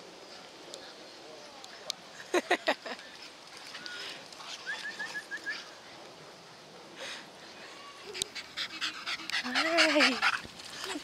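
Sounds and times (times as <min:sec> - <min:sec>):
light rain hiss: 0:00.0 - 0:11.0.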